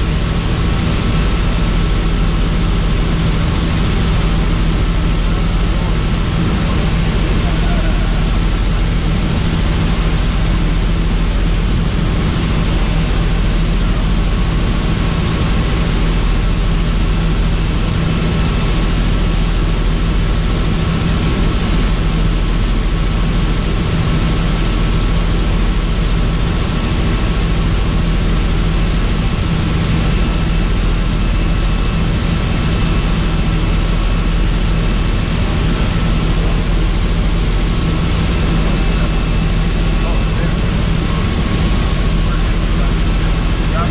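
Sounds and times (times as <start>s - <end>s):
helicopter rotor and engine drone: 0.0s - 43.9s.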